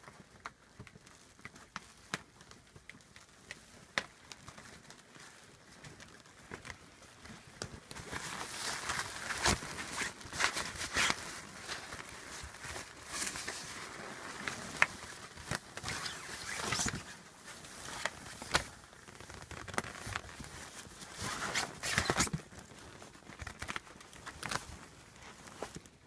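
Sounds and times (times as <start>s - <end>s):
small paws pattering: 0.0s - 26.0s.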